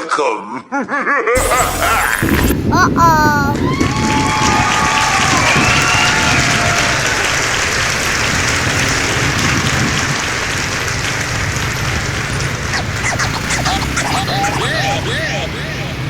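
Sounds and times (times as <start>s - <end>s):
crowd applause: 1.4s - 16.0s.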